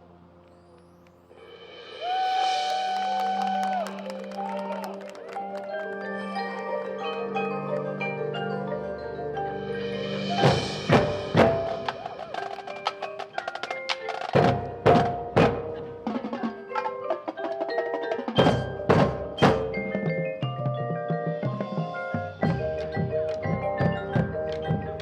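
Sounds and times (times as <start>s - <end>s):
sharp percussion hits: 1.3s - 25.0s
marching band music: 1.4s - 25.0s.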